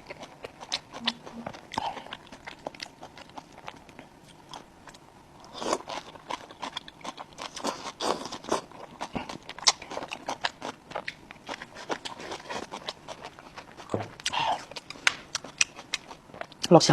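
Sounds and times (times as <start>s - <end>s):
person chewing food: 0.0s - 16.7s.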